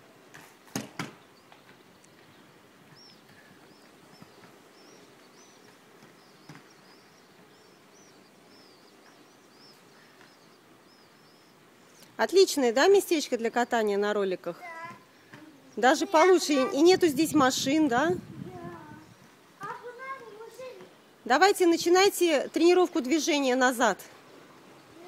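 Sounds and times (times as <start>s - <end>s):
bird chirping: 1.1s - 25.0s.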